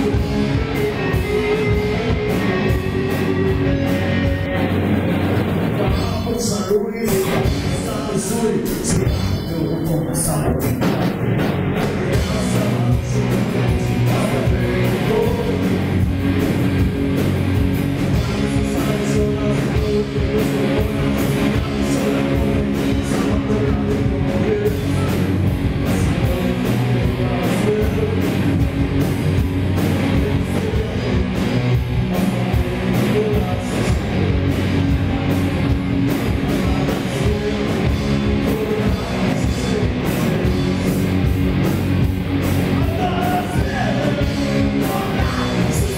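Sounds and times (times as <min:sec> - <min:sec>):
bass guitar: 0:00.0 - 0:45.9
drum kit: 0:00.0 - 0:45.9
electric guitars: 0:00.0 - 0:45.9.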